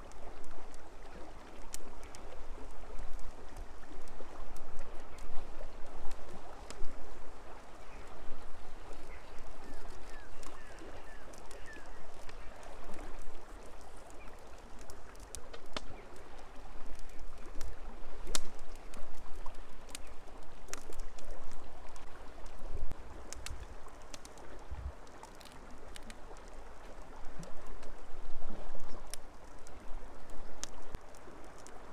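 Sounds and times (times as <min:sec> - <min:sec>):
river water flowing: 0:00.0 - 0:31.9.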